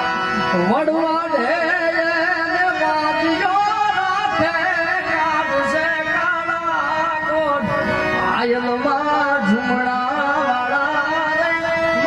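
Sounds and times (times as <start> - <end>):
instrumental accompaniment: 0.0 - 12.0
man singing devotional song: 0.0 - 12.0.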